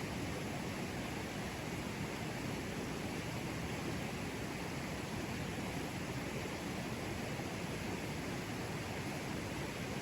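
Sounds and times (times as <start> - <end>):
river flowing over rocks: 0.0 - 10.0.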